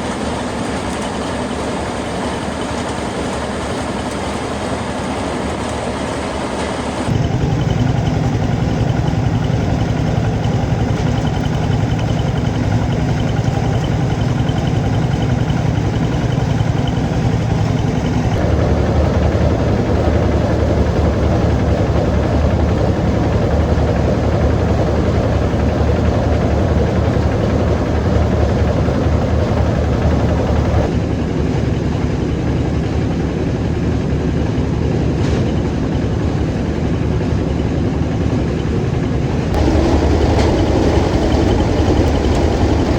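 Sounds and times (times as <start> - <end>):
engine running with low heavy note: 0.0 - 42.9.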